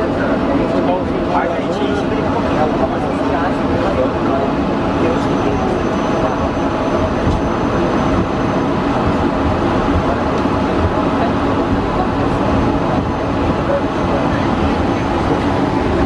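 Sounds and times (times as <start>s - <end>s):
jet engines at low power: 0.0s - 16.0s.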